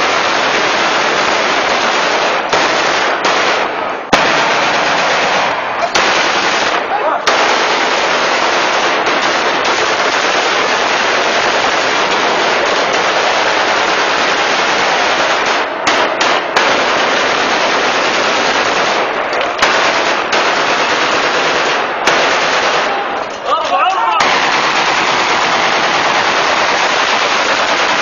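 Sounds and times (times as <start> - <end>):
rifles firing rapidly: 0.0 - 28.0.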